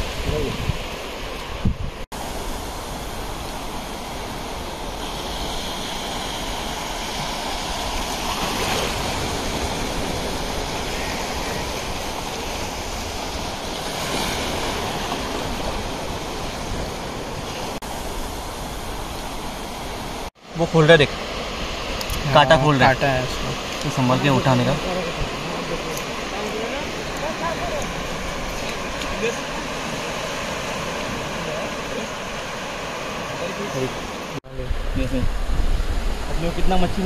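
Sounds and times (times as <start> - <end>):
waves breaking on a beach: 0.0 - 37.0.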